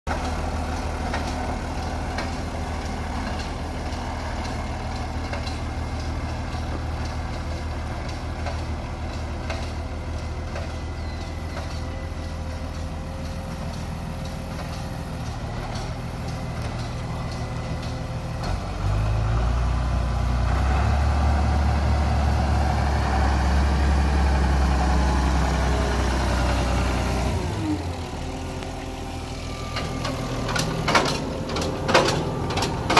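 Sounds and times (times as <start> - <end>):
diesel tractor engine idling: 0.1 - 32.9.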